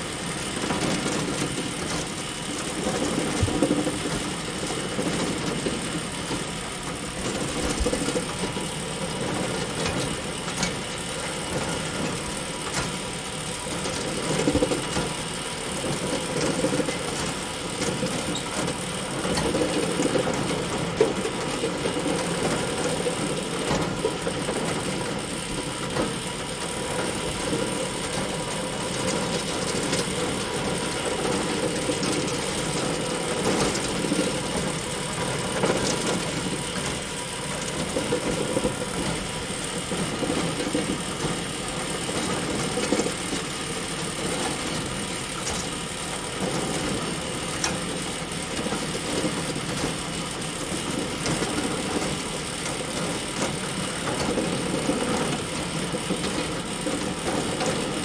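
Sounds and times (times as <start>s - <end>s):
bale elevator conveyor drone: 0.0s - 58.0s.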